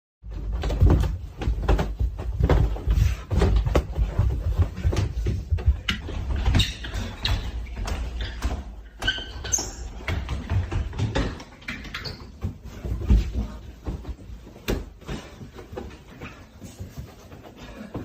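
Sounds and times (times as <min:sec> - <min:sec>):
scuffling and thumps: 0:00.2 - 0:18.0.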